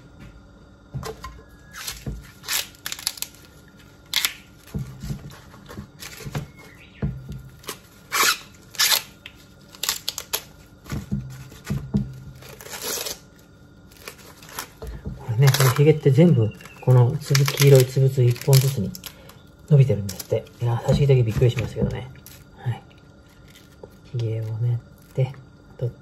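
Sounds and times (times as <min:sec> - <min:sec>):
corn husks ripping and rustling: 0:01.6 - 0:25.6.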